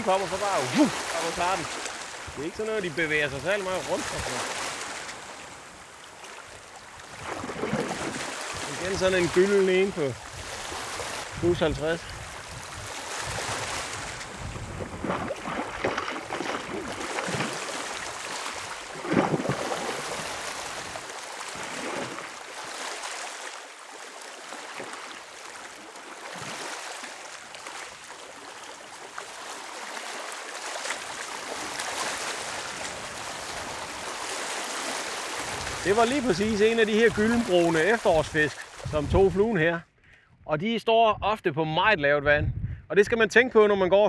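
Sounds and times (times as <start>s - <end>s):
water splashing: 0.0s - 39.7s
water washing: 0.0s - 39.7s.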